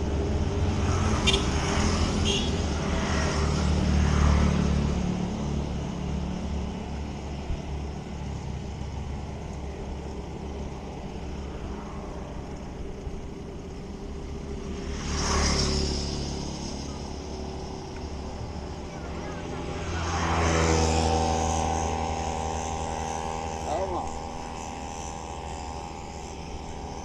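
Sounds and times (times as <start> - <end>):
low road rumble: 0.0 - 27.0
motorbikes passing close by: 0.0 - 27.0.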